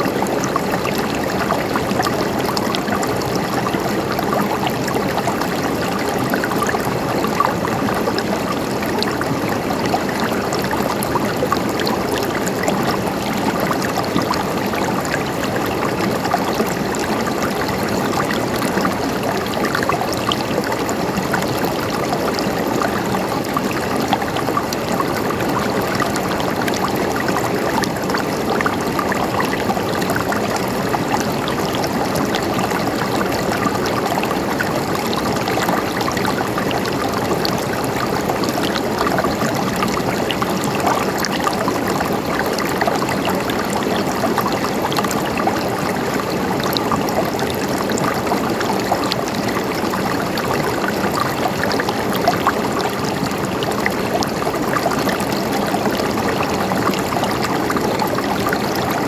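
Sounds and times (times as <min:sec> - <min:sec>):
stream gurgling over rocks: 0:00.0 - 0:59.0.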